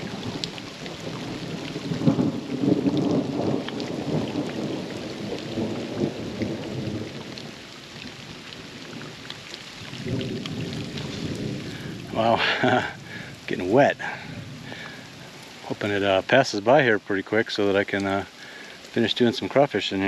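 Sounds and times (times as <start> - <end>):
heavy rain: 0.0 - 20.0
raindrops pattering: 0.0 - 20.0.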